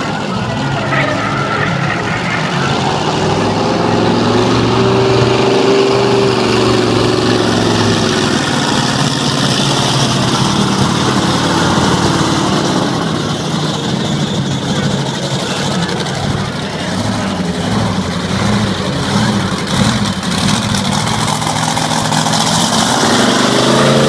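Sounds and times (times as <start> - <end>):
monster truck engine running: 0.0 - 24.0.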